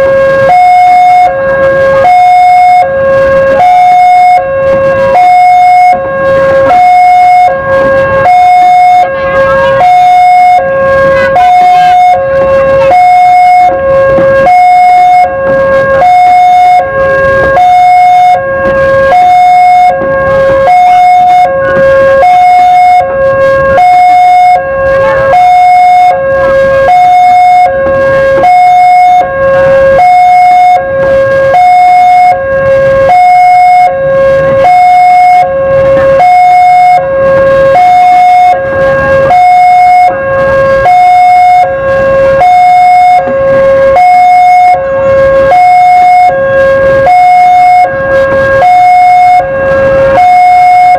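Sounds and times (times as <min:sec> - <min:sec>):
level-crossing two-tone alarm: 0:00.0 - 0:50.9.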